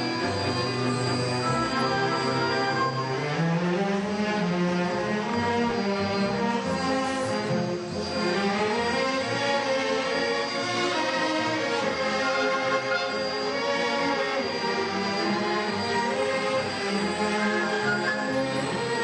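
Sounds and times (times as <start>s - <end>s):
bowed strings sustained chords: 0.0s - 15.7s
symphony orchestra playing: 0.0s - 19.0s.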